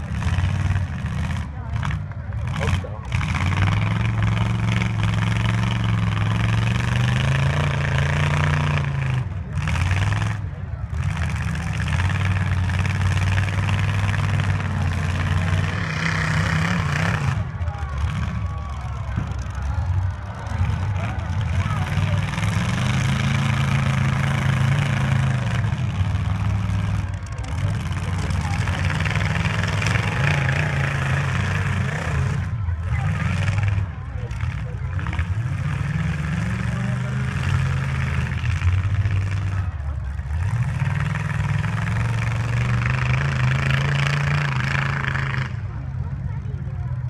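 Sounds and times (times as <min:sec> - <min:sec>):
truck engine revving: 0:00.0 - 0:47.0.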